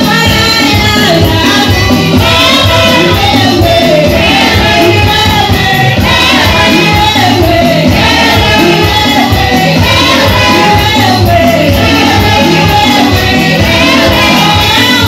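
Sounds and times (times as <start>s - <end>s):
group singing gospel music: 0.0s - 15.0s.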